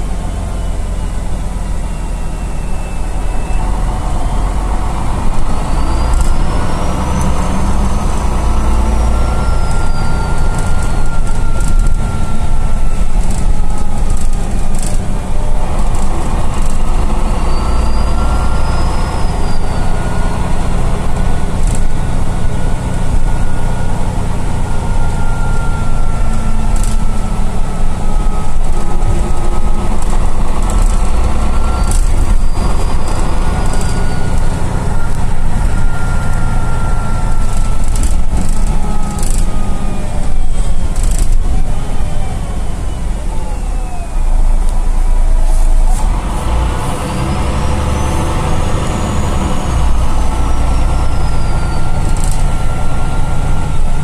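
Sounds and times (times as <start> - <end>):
bus diesel engine rumble: 0.0 - 54.0
high engine whine: 0.0 - 54.0.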